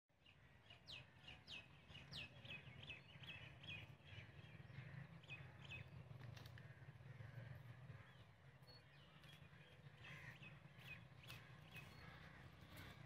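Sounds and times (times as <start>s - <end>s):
small bird calls: 0.2s - 13.0s.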